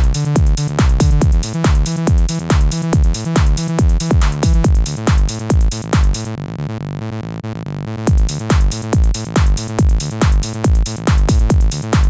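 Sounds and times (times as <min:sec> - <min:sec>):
hi-hats: 0:00.0 - 0:06.3, 0:08.1 - 0:12.0
pounding kick drum: 0:00.0 - 0:06.3, 0:08.1 - 0:12.0
rolling synth bassline: 0:00.0 - 0:12.0.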